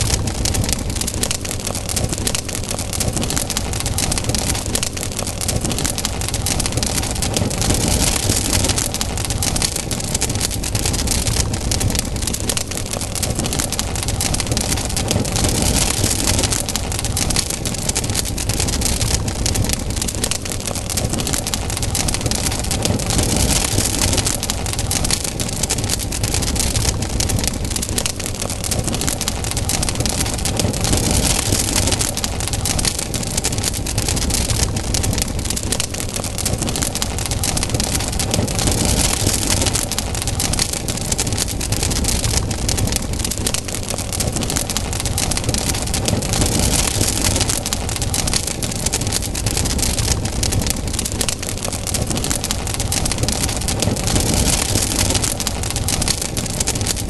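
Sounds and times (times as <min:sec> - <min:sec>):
burning wood crackling: 0:00.0 - 0:57.0
flames rushing: 0:00.0 - 0:57.0.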